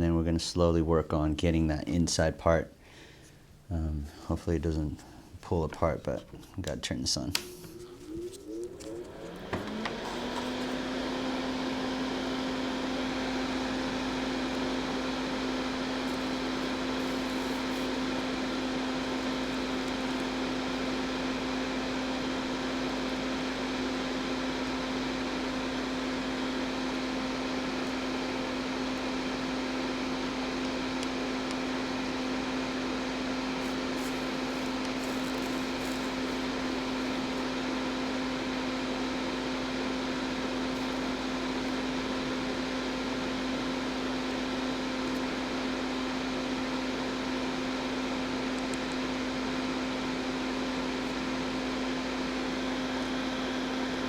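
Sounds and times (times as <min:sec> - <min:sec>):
electric fan motor spinning up: 0:07.3 - 0:54.0.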